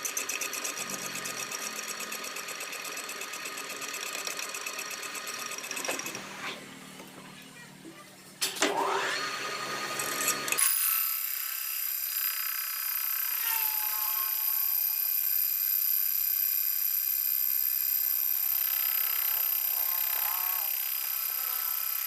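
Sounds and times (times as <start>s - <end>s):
high-pitched machine whine: 0.0s - 7.0s, 8.7s - 22.0s.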